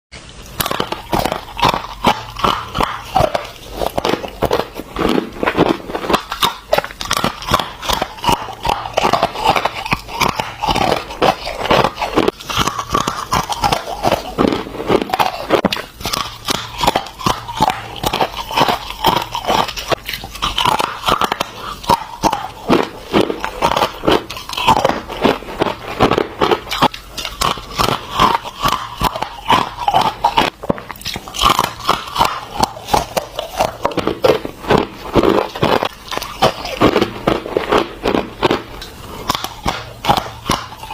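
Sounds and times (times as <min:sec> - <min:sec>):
ice crunching being chewed: 0:00.1 - 0:40.9.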